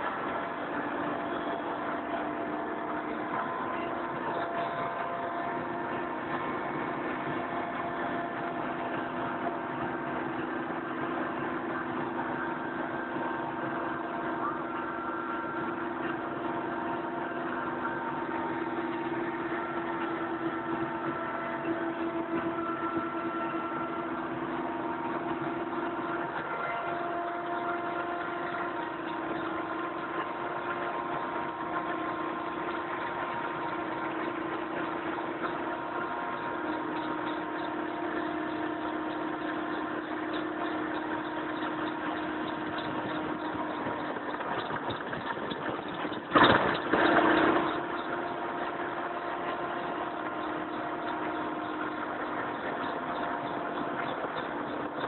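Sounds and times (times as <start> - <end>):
helicopter engines whining: 0.0 - 55.0.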